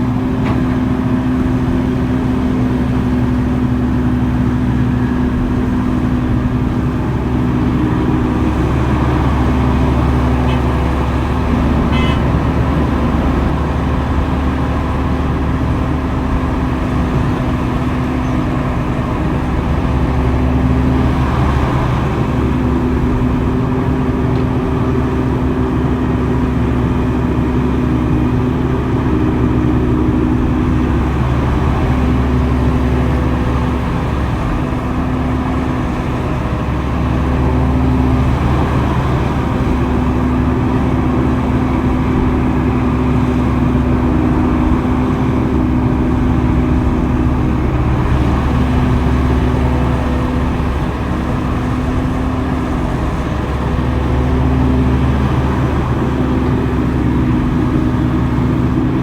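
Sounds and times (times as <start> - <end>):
heavy machinery engine humming: 0.0 - 59.0.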